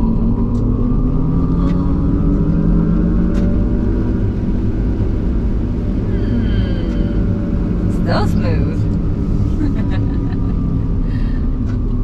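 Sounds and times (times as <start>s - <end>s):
tyre and drivetrain rumble: 0.0s - 12.0s.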